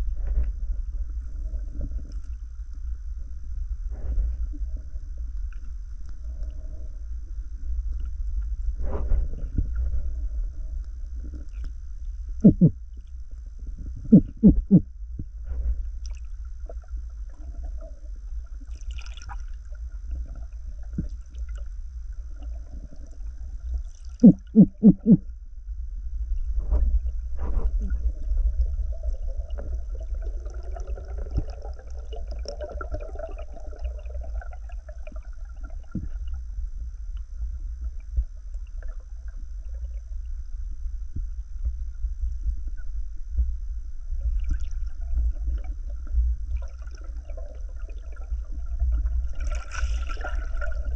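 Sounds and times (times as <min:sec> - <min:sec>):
faint wavering hum: 0:00.0 - 0:50.9
underwater rumble: 0:00.0 - 0:50.9.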